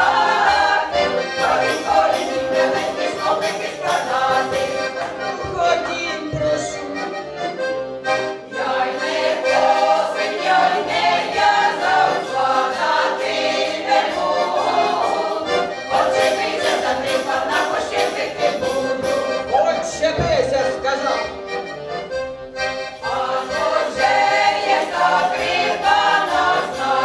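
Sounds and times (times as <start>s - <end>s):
women's choir singing folk song: 0.0s - 21.3s, 22.6s - 27.0s
accordion: 0.0s - 27.0s.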